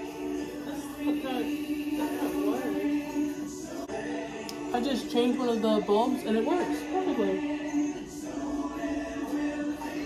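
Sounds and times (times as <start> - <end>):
choir-like singing: 0.0 - 10.0.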